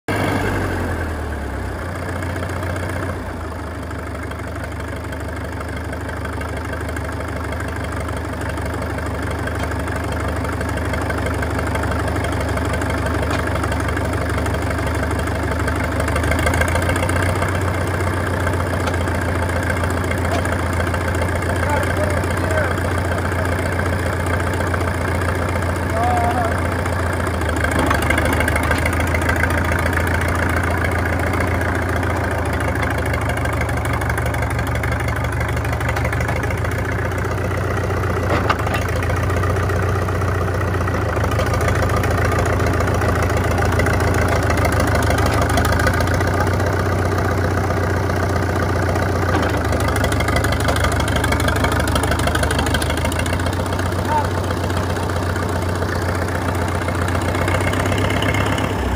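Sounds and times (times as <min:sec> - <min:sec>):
tractor diesel engine running: 0:00.1 - 0:58.9.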